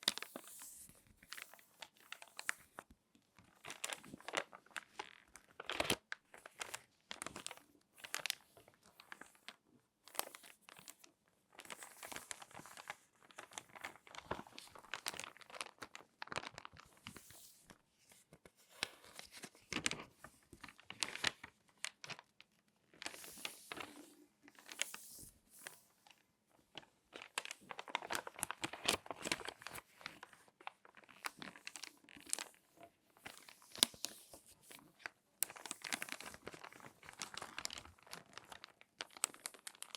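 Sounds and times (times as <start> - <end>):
magazine pages crinkling: 3.6 - 26.2, 26.8 - 39.9.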